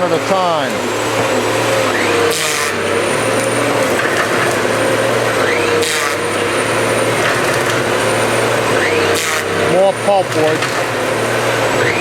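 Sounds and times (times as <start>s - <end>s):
harvester engine running: 0.0s - 12.0s.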